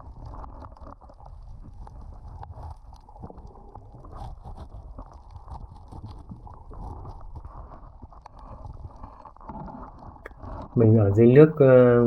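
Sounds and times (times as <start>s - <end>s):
clicks and crackles: 0.0s - 10.8s.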